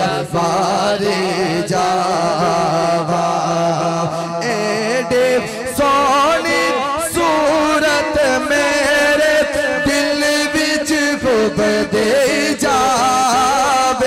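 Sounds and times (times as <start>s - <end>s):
man singing into microphone: 0.0s - 14.0s.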